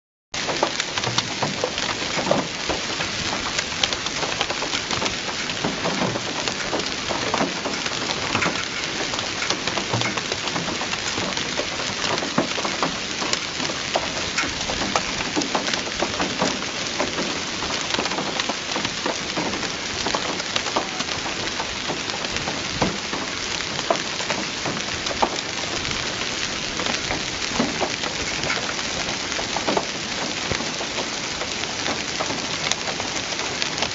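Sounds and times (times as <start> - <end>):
hailstones falling hard: 0.4 - 33.9.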